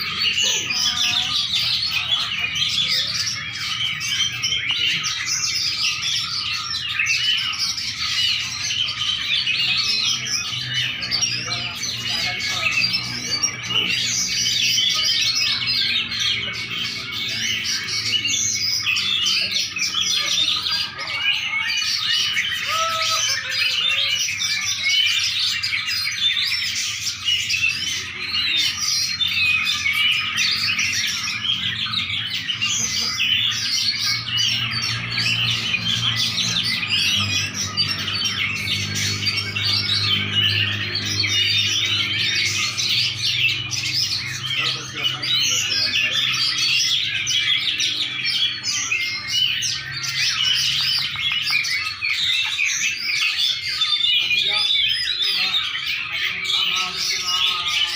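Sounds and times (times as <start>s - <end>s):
songbird chirps and trills: 0.0s - 57.9s.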